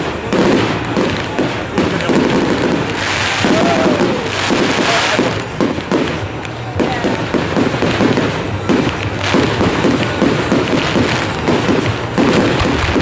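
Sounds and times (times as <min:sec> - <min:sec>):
fireworks bangs and crackles: 0:00.0 - 0:13.0
hissing crackle: 0:00.0 - 0:13.0.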